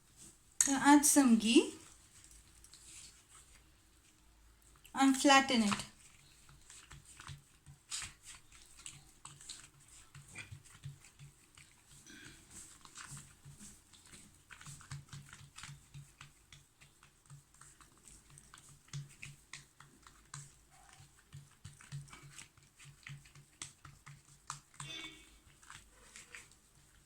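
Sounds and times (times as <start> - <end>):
fingers patting dough: 4.7 - 27.0.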